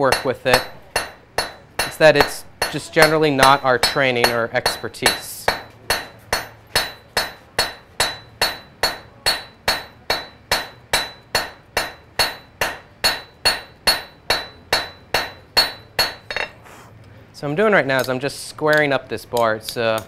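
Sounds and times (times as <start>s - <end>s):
hammer striking iron on anvil: 0.0s - 16.6s.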